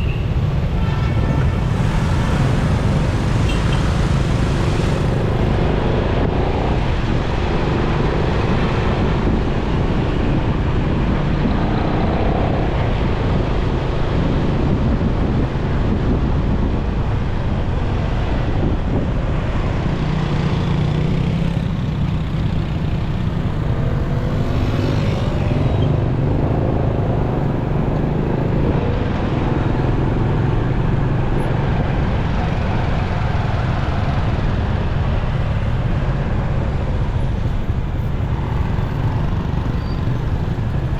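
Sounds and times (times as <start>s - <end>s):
road and wind noise: 0.0s - 40.9s
traffic: 0.0s - 40.9s.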